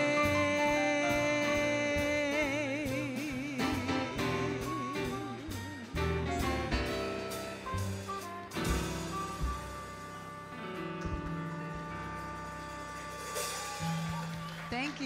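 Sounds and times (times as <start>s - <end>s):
swing jazz band playing: 0.0s - 15.0s.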